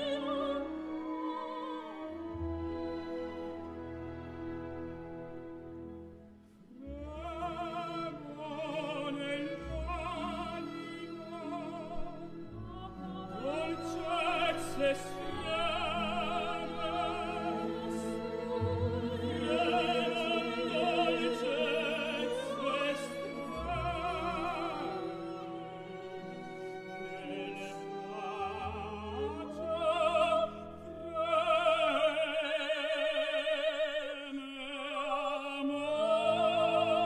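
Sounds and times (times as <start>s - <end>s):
soprano singing opera: 0.0s - 2.8s, 6.7s - 37.0s
tenor singing opera: 0.0s - 3.6s, 6.7s - 37.0s
symphony orchestra: 0.0s - 37.0s.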